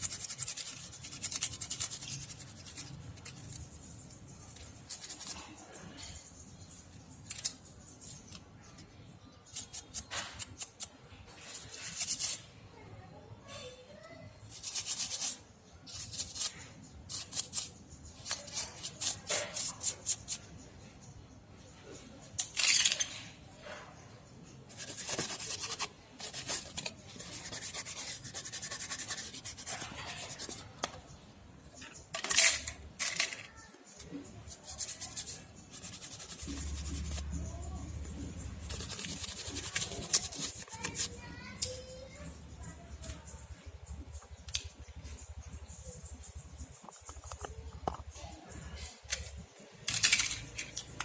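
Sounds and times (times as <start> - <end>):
scraping and rubbing on hard parts: 0.0 - 12.6, 14.4 - 20.6, 22.4 - 42.0, 43.0 - 51.0.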